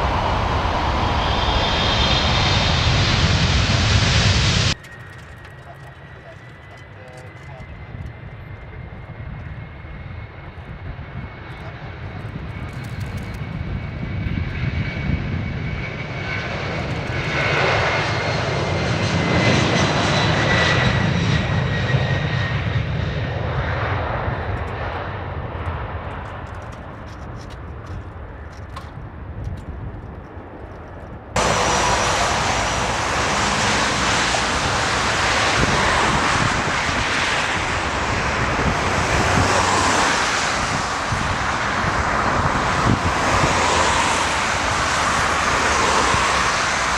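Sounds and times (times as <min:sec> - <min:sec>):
jet engine rushing: 0:00.0 - 0:29.1, 0:30.9 - 0:46.9
jet engines whining: 0:00.0 - 0:46.9.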